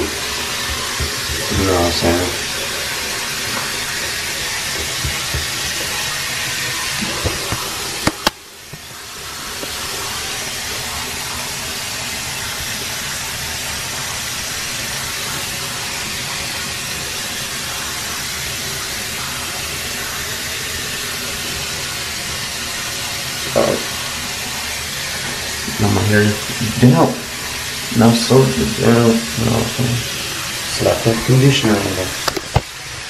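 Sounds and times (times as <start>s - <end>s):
running water hiss: 0.0s - 33.0s.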